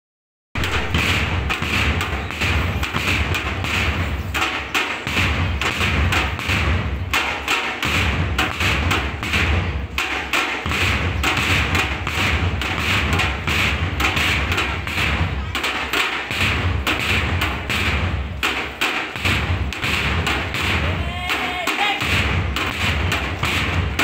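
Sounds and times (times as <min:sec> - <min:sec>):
bass drum thumps: 0:00.6 - 0:04.4, 0:05.0 - 0:15.6, 0:16.3 - 0:21.4, 0:22.0 - 0:24.0
snare drum strokes: 0:00.6 - 0:24.0.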